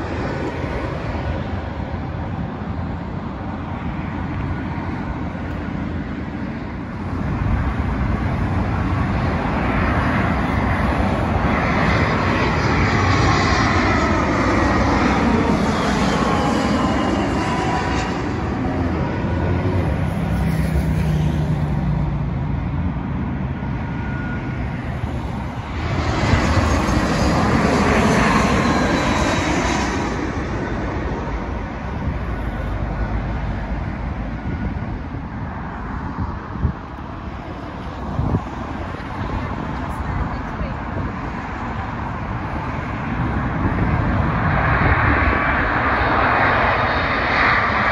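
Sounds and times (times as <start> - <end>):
jet airliner passing overhead: 0.0 - 47.9.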